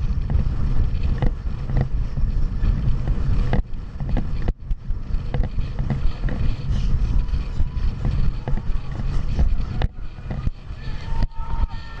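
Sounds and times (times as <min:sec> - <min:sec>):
low road rumble: 0:00.0 - 0:12.0
wind buffeting microphone: 0:00.0 - 0:12.0.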